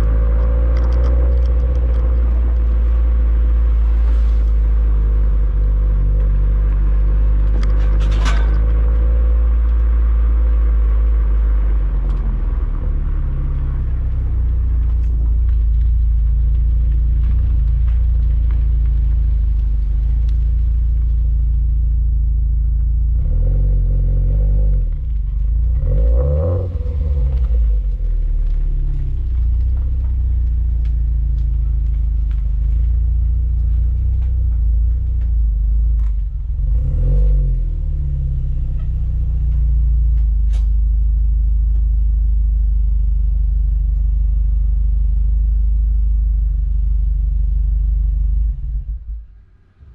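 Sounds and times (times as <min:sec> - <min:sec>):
car exhaust drone: 0:00.0 - 0:49.9.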